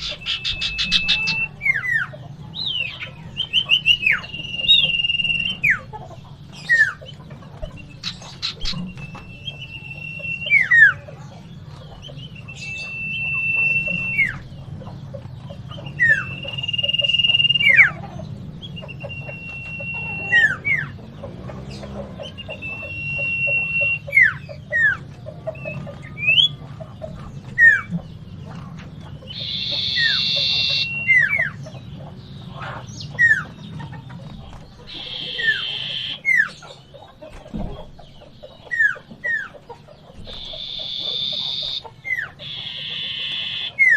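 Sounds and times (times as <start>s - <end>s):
bird whistling song: 0.0s - 21.0s, 21.7s - 26.6s, 27.4s - 43.9s
harsh rasping bird chatter: 0.0s - 43.9s.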